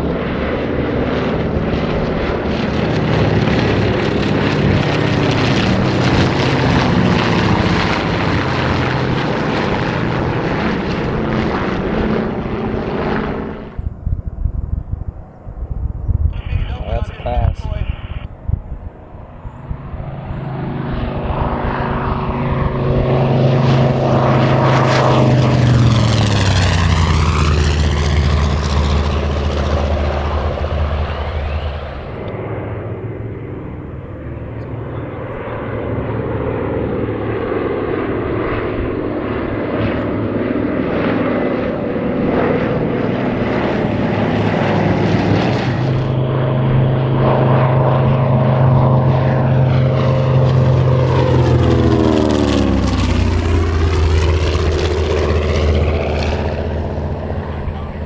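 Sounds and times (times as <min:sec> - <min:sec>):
propeller plane flyby: 0:00.0 - 0:58.0.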